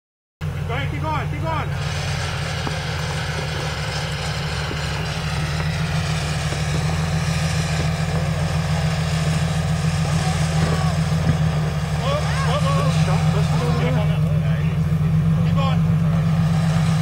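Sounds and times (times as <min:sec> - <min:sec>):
car engine at low revs: 0:00.4 - 0:17.0.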